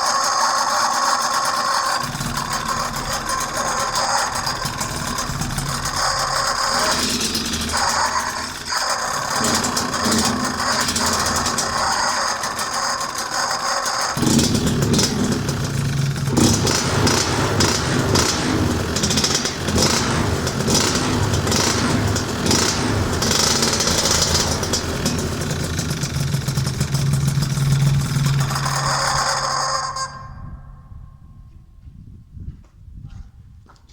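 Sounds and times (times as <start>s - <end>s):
scooter engine revving: 0.0s - 30.9s.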